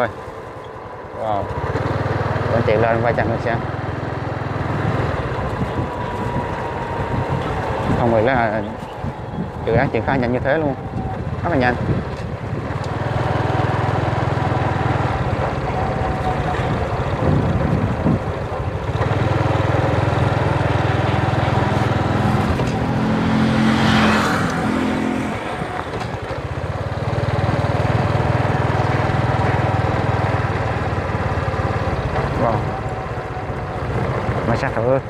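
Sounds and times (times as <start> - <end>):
motorbike engine running: 0.0 - 35.0.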